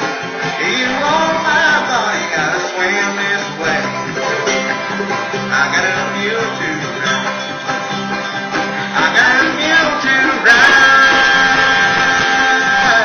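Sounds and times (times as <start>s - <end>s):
banjo: 0.0s - 13.0s
bass: 0.0s - 13.0s
guitar: 0.0s - 13.0s
mandolin: 0.0s - 13.0s.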